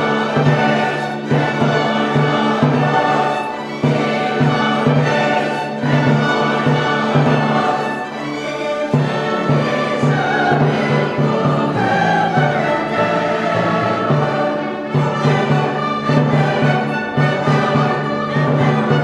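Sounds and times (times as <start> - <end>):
orchestral bowed strings: 0.0 - 19.0.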